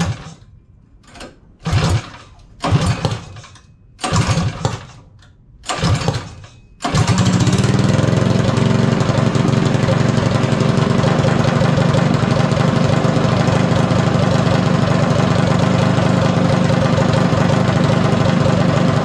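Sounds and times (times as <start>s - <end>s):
go-kart engine cranking and running: 0.0s - 19.0s.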